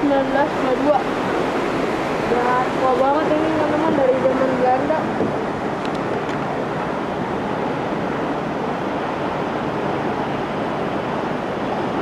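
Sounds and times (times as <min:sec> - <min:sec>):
water rushing through a channel: 0:00.0 - 0:12.0.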